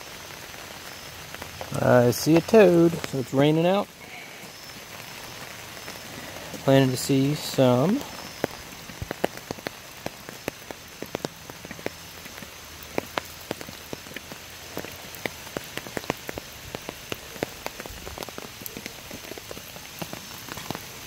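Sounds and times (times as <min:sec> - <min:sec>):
raindrops tapping close by: 0:00.0 - 0:21.0
steady rain hiss: 0:00.0 - 0:21.0.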